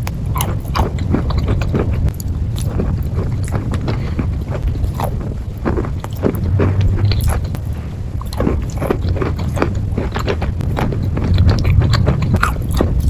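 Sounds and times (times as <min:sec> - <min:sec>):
low steady hum: 0:00.0 - 0:13.0
person chewing crunchy food: 0:00.0 - 0:13.0.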